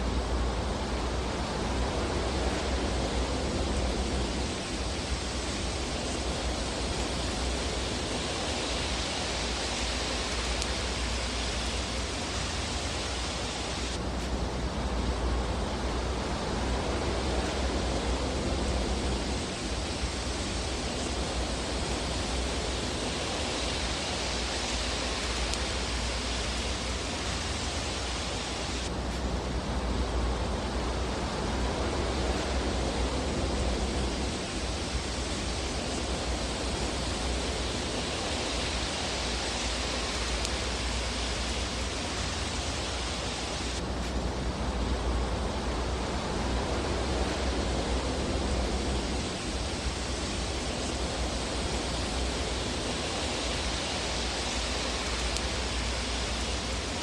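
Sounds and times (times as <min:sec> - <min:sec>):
fire burning with rushing hiss: 0:00.0 - 0:57.0.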